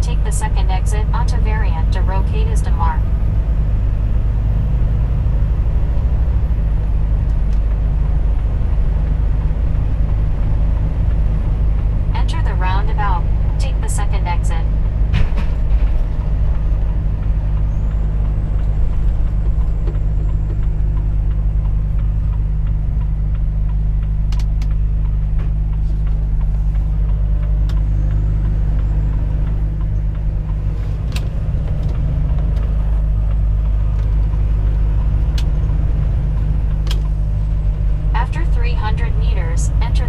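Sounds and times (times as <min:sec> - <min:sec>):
road noise: 0:00.0 - 0:40.0
truck diesel engine drone: 0:00.0 - 0:40.0.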